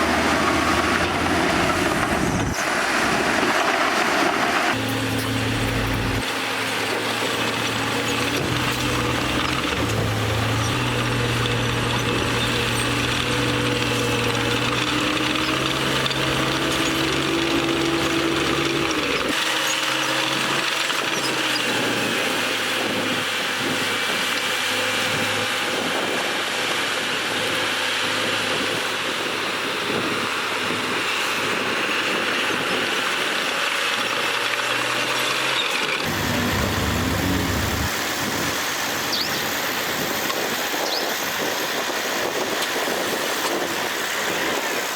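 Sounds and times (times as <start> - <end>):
heavy machinery diesel engines: 0.0 - 44.9.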